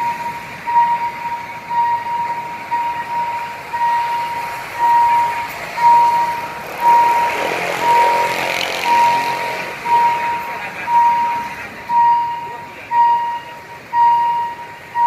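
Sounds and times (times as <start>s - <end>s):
level crossing warning tone: 0.0s - 15.0s
road and train noise: 0.0s - 15.0s.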